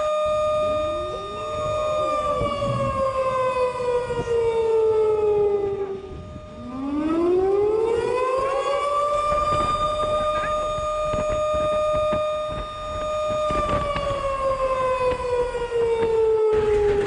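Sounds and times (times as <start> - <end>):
warning siren wailing: 0.0 - 17.0.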